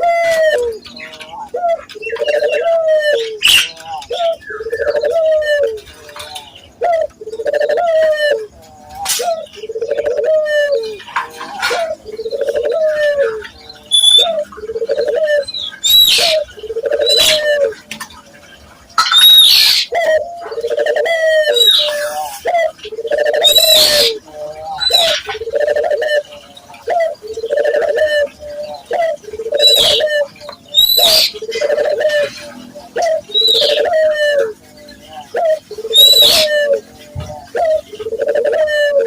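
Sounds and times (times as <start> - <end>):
doves cooing: 0.0 - 39.0.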